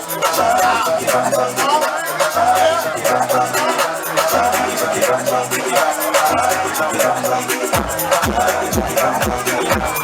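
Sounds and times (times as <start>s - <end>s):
party music with bass: 0.0s - 10.0s
person singing: 0.0s - 10.0s.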